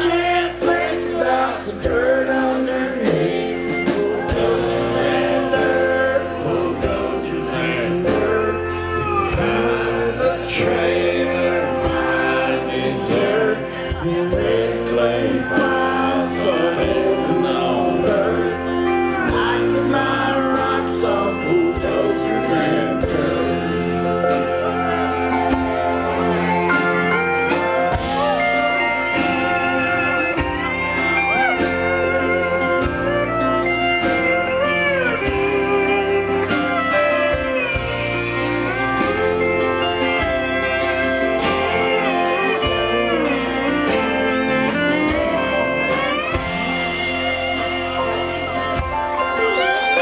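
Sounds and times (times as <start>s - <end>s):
bass guitar: 0.0s - 50.0s
drums: 0.0s - 50.0s
lead guitar solo: 0.0s - 50.0s.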